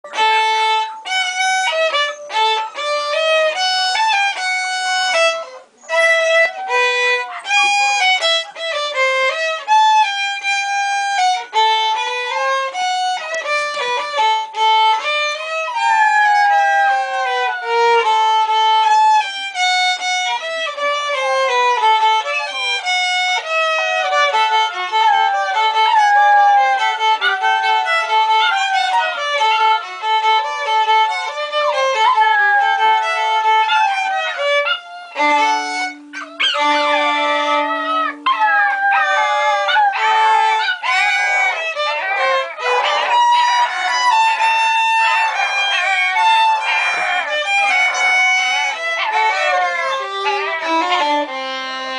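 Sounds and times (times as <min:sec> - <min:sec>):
violin melody: 0:00.0 - 0:51.9
puppies howling: 0:00.1 - 0:51.9.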